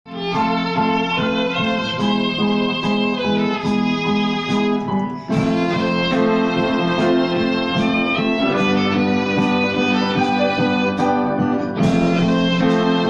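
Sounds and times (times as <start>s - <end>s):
plucked-string accompaniment: 0.1s - 13.0s
violin melody: 0.1s - 13.0s.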